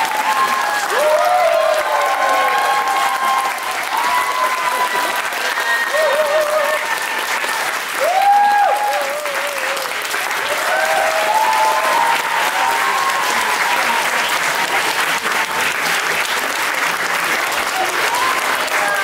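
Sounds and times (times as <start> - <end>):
audience clapping: 0.0 - 19.0.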